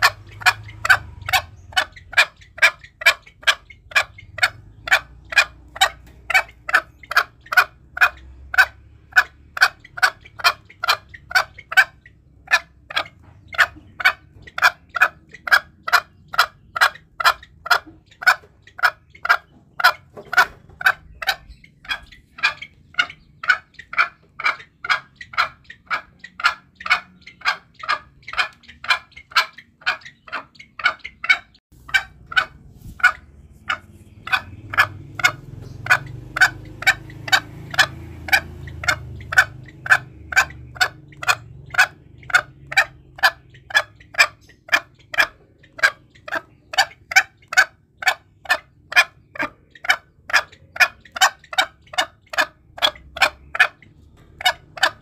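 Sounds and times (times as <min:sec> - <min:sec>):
junglefowl clucking calls: 0:00.0 - 0:55.0.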